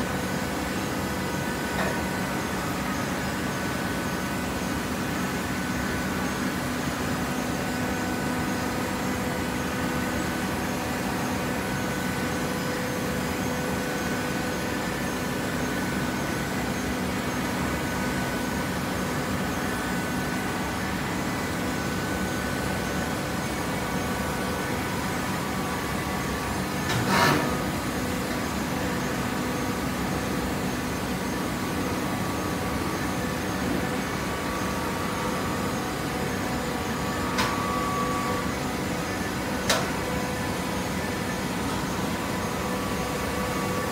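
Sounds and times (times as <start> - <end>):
hydraulic power unit humming: 0.0 - 43.9.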